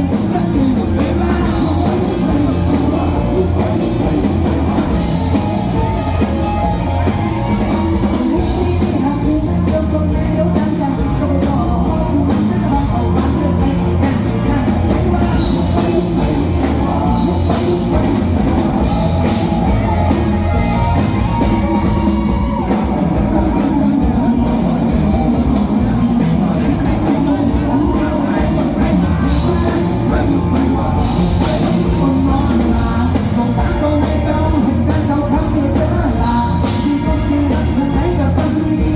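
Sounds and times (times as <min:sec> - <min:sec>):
drum kit beat: 0:00.0 - 0:38.9
live band playing through a pa: 0:00.0 - 0:38.9.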